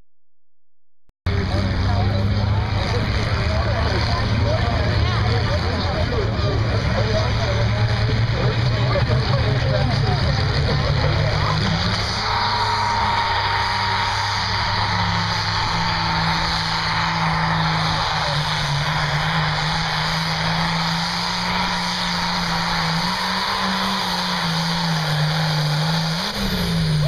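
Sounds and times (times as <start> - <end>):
tractor engine under load: 1.3 - 27.0.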